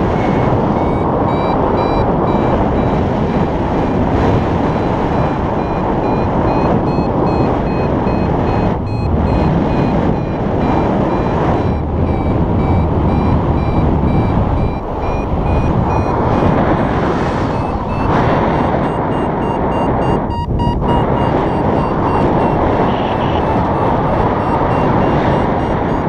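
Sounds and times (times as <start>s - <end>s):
variometer short high beeps: 0.0s - 26.0s
wind rushing across microphone: 0.0s - 26.0s.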